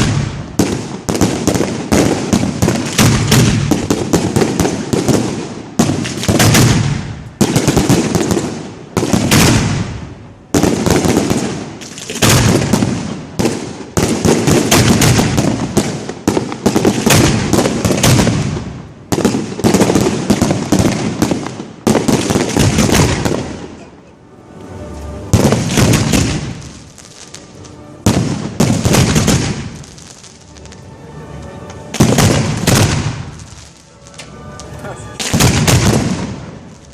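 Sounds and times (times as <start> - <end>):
fireworks bangs and crackle: 0.0 - 24.0, 25.3 - 30.9, 31.7 - 36.9.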